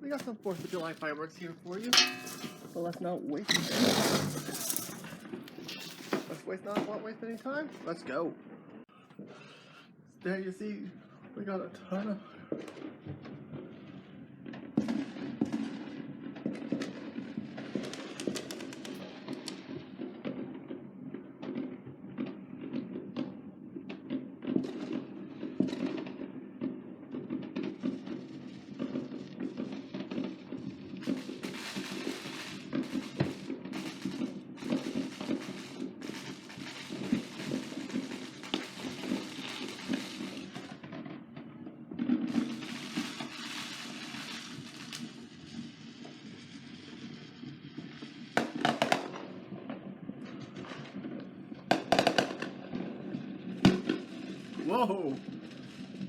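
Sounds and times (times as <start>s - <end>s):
fireworks bangs and pops: 0.0s - 56.0s
fireworks crackling: 0.0s - 56.0s.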